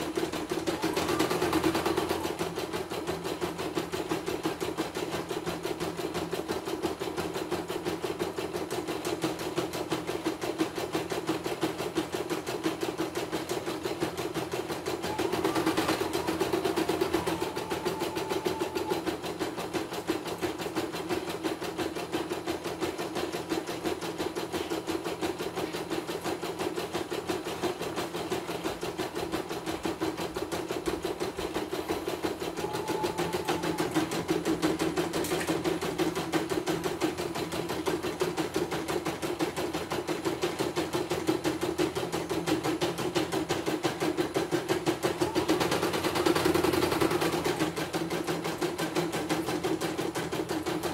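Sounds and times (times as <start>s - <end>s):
embroidery machine stitching: 0.0s - 50.9s.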